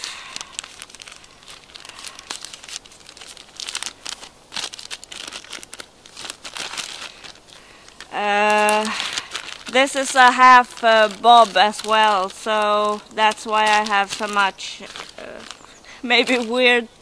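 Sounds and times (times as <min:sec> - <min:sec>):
rummaging in a crinkly bag: 0:00.0 - 0:17.0.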